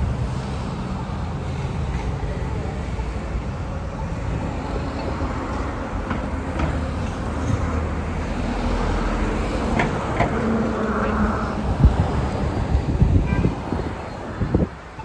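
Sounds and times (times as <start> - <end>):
street traffic engine rumble: 0.0 - 15.0.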